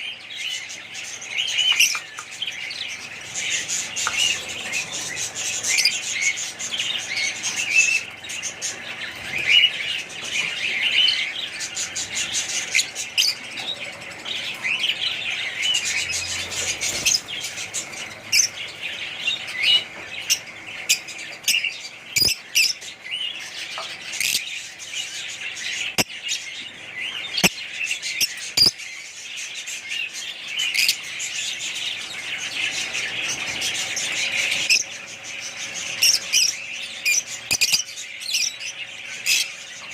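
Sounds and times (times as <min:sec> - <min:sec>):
parrots chirping and chattering: 0:00.0 - 0:39.9.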